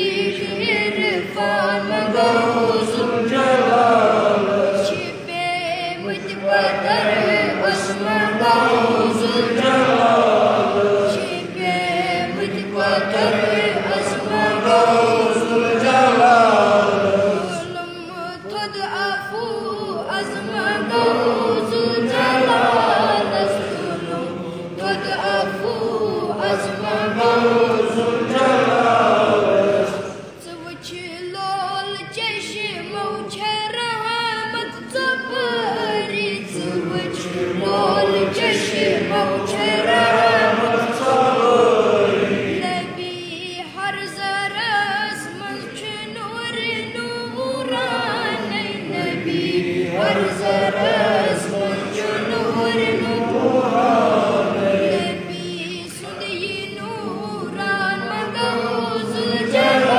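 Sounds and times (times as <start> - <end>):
boy singing devotional song: 0.0 - 59.9.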